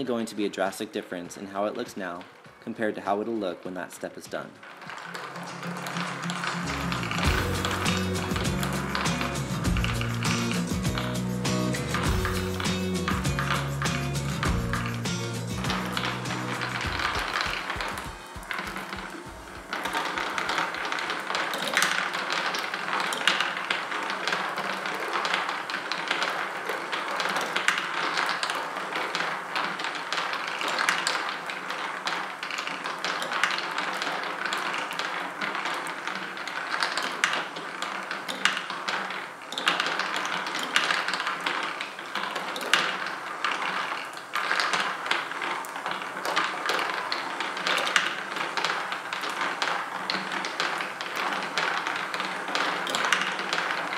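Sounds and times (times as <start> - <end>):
marbles rolling and clicking: 0.0 - 53.9
motorised marble lift: 4.7 - 53.9.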